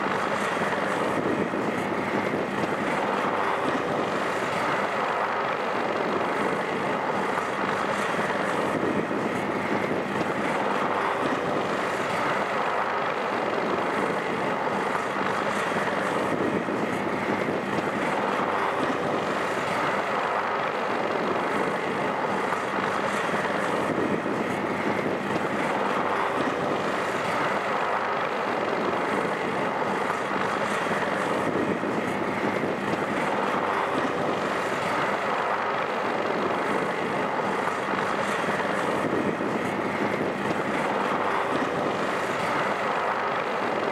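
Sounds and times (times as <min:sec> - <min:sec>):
helicopter engine and rotor: 0:00.0 - 0:43.9.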